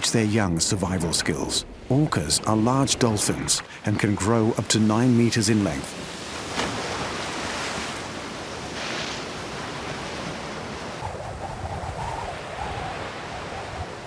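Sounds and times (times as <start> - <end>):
sea water surging and splashing: 0.0 - 11.3.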